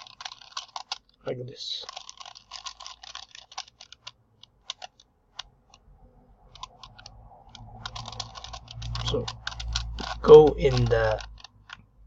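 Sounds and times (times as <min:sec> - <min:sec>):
puzzle cube clicking: 0:00.0 - 0:05.9, 0:06.5 - 0:12.0.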